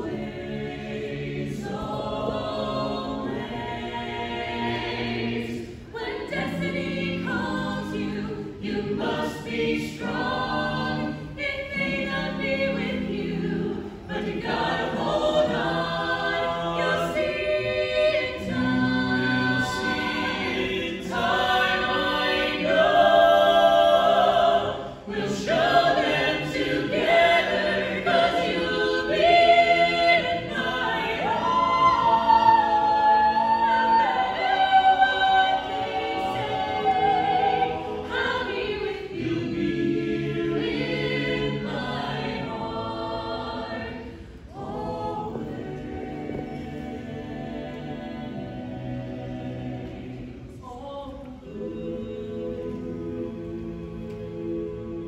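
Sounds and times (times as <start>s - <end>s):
vocal ensemble singing in harmony: 0.0s - 55.0s.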